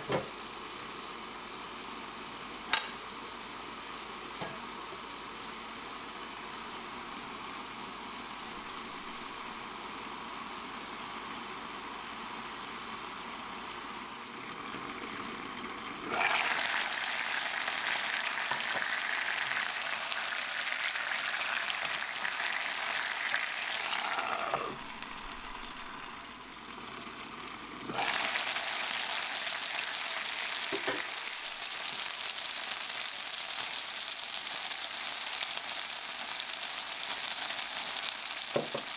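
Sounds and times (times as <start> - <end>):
dumplings sizzling in a pan: 0.0 - 38.9.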